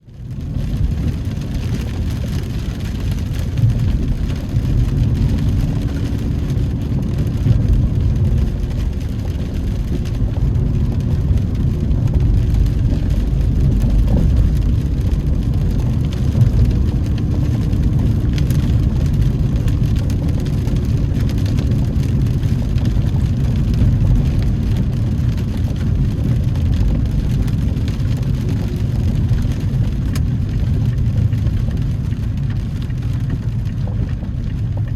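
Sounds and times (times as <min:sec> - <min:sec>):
car cabin road rumble: 0:00.0 - 0:34.9.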